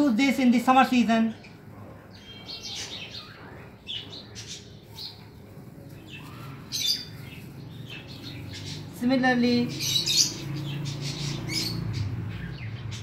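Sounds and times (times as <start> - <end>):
lovebirds chirping and squawking: 0.0 - 13.0.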